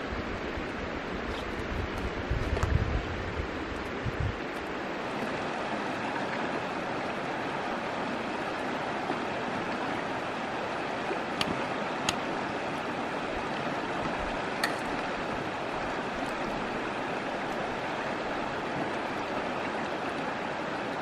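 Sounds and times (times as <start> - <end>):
stream flowing over rocks: 0.0 - 21.0.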